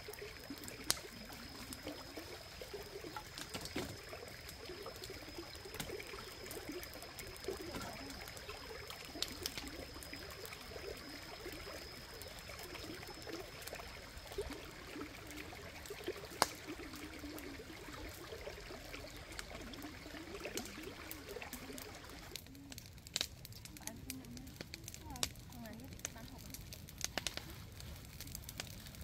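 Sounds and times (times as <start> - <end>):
stream trickling over rocks: 0.0 - 29.0
wood fire crackling: 0.0 - 29.0.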